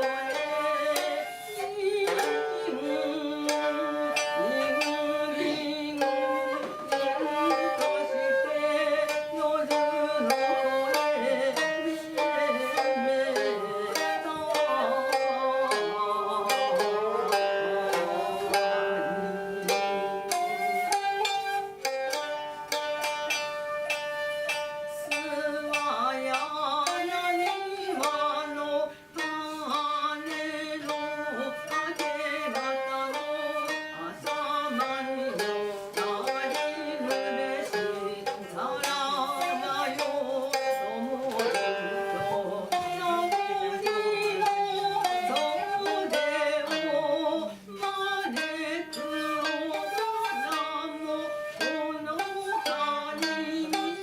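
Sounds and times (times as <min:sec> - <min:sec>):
bamboo flute: 0:00.0 - 0:54.0
plucked koto strings: 0:00.0 - 0:54.0.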